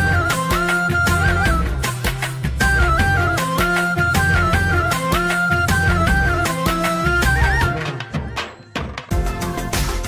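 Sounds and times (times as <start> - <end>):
ringtone melody with beat: 0.0 - 10.0.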